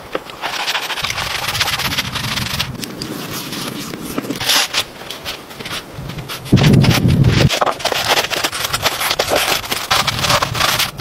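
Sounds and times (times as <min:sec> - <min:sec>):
rustle: 0:00.0 - 0:11.0
brush scrubbing wood: 0:00.4 - 0:11.0.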